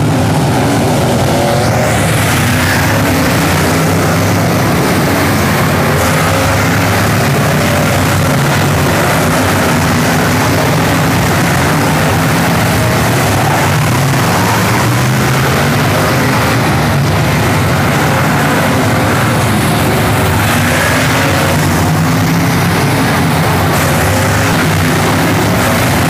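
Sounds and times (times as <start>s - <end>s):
race car engines: 0.0s - 26.0s.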